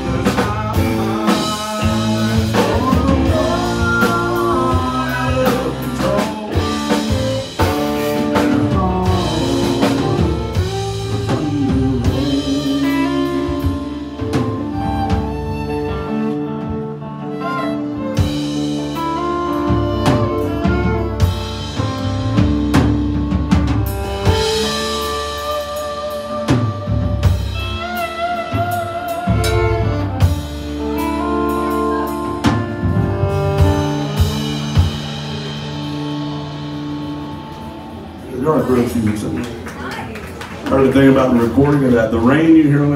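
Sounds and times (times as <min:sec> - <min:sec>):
fiddle wavering notes: 0:00.0 - 0:39.2
drum kit with cymbal hits: 0:00.0 - 0:39.8
acoustic guitar: 0:00.0 - 0:42.9
country band playing: 0:00.0 - 0:42.9
electric guitar: 0:00.0 - 0:42.9.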